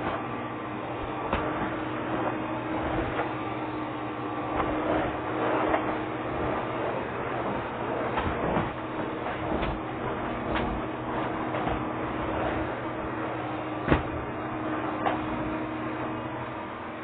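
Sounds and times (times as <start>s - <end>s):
vacuum cleaner humming: 0.0s - 17.0s.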